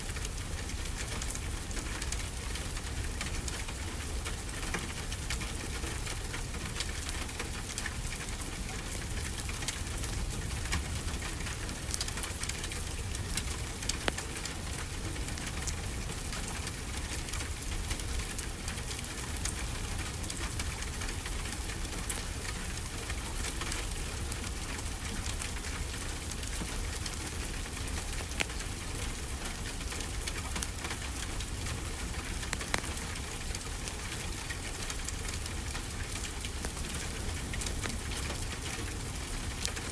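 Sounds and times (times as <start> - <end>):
steady rainfall: 0.0 - 39.9
wood fire crackling: 0.0 - 39.9.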